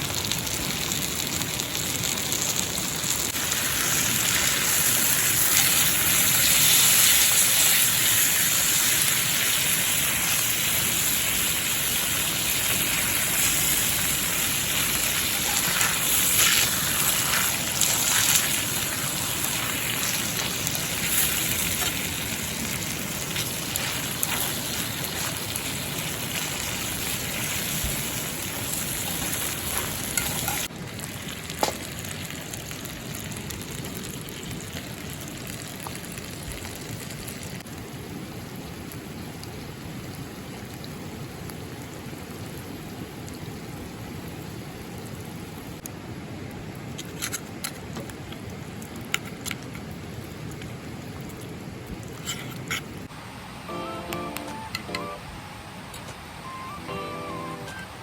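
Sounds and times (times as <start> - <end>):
meat sizzling over a fire: 0.0 - 53.1.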